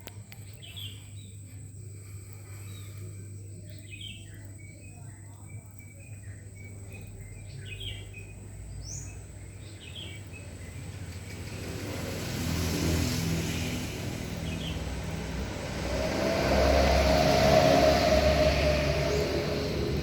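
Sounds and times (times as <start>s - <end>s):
motor vehicle engine approaching: 0.0s - 4.4s, 5.7s - 20.0s.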